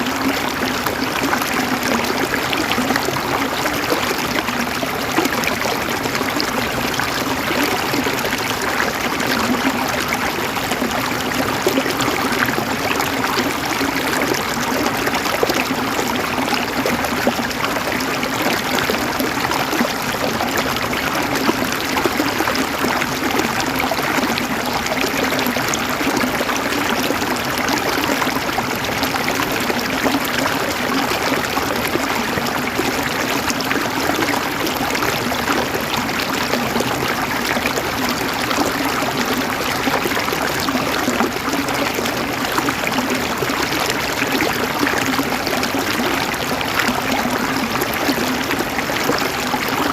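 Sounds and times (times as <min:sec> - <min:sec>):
water flowing in a stream: 0:00.0 - 0:49.9.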